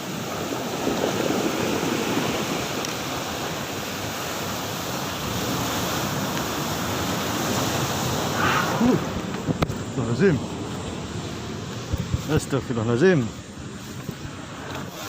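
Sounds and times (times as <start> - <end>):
rough sea surf rushing: 0.0 - 15.0
wind buffeting microphone: 0.0 - 15.0.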